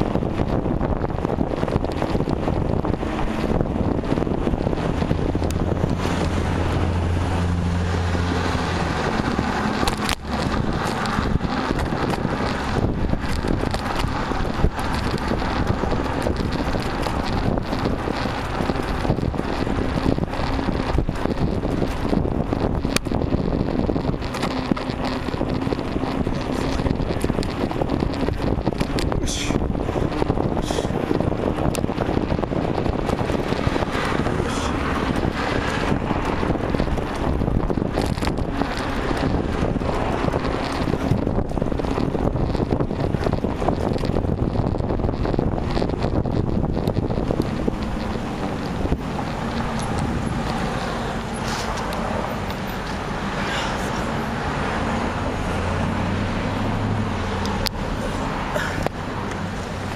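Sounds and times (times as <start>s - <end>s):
road and traffic noise: 0.0s - 59.9s
wind buffeting microphone: 0.0s - 59.9s.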